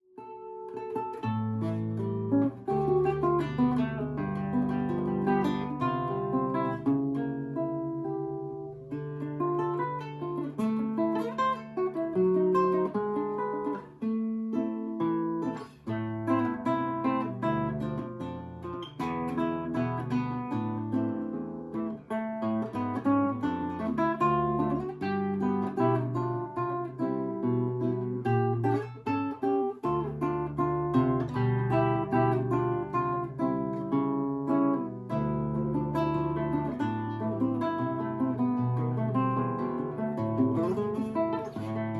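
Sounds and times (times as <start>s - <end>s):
acoustic guitar fingerpicked: 0.1s - 41.9s.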